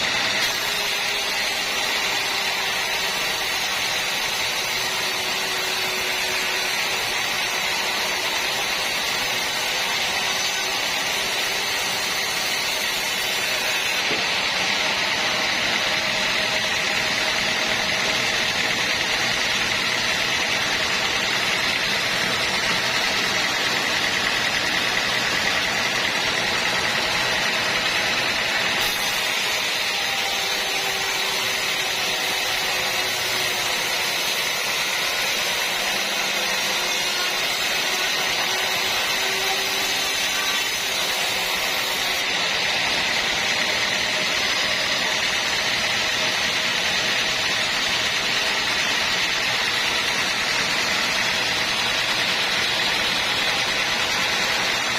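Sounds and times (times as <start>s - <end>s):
sawmill machinery whining: 0.0s - 54.9s.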